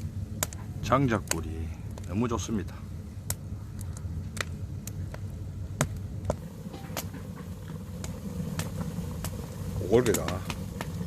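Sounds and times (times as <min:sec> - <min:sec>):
firewood crackling and popping: 0:00.0 - 0:11.0
low steady rumble: 0:00.0 - 0:11.0.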